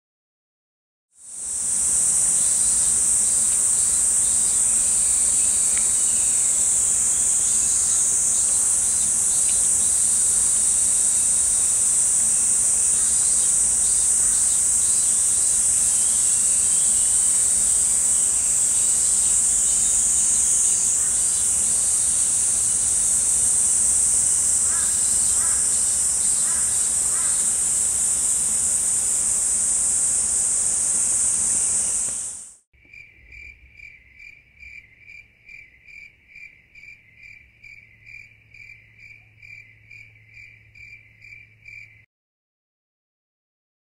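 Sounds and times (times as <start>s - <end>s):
insects droning: 1.2s - 42.1s.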